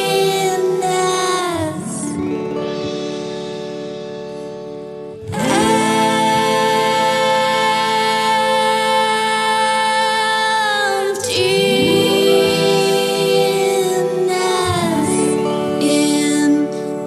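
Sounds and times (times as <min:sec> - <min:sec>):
music with long held notes: 0:00.0 - 0:17.0.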